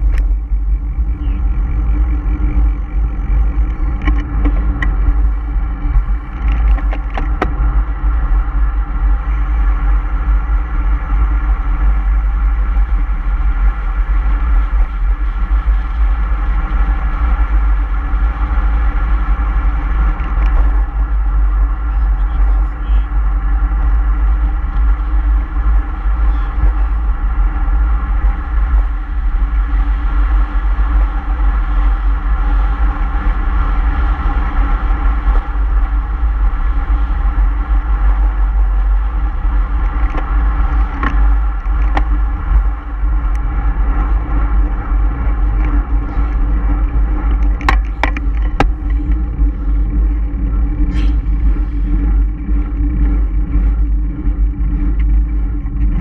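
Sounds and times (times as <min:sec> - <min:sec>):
road and wind rumble: 0:00.0 - 0:56.0
vehicle engine cruising: 0:00.0 - 0:56.0.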